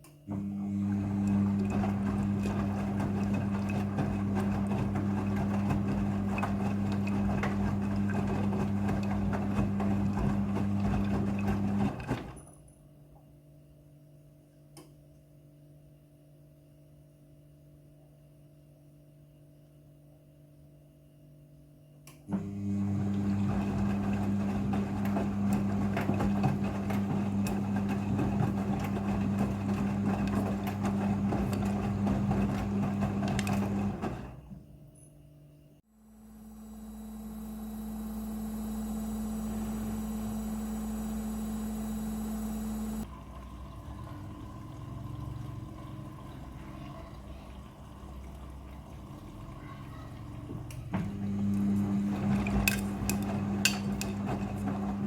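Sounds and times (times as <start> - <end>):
washing machine running: 0.0 - 12.5, 22.3 - 34.8, 36.0 - 55.0.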